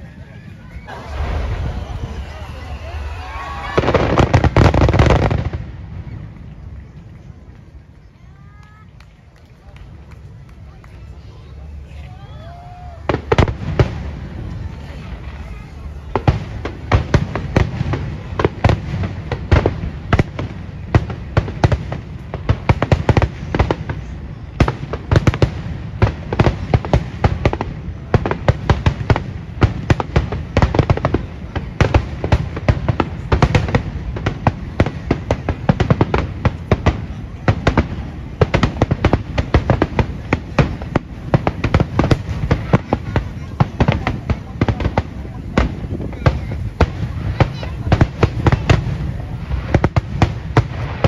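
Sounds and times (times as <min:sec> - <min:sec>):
fireworks bursting: 0:00.0 - 0:51.0.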